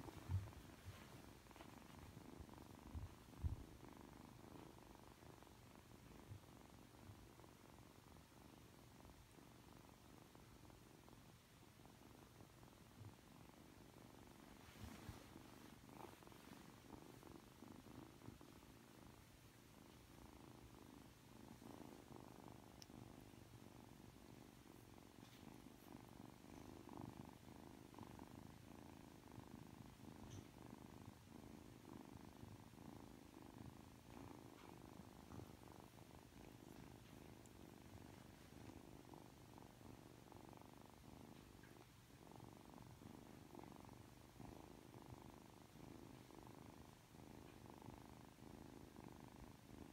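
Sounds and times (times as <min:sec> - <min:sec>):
kitten purring: 0:00.0 - 0:49.9.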